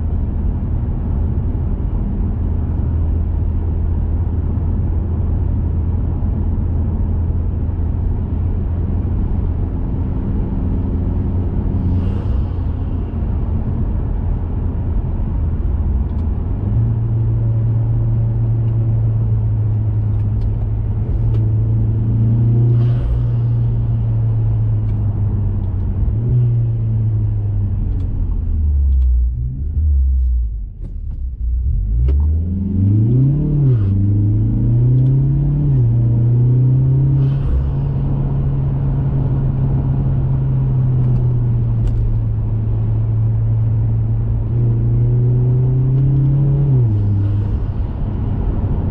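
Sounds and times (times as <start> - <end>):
car engine cruising drone: 0.0 - 48.9.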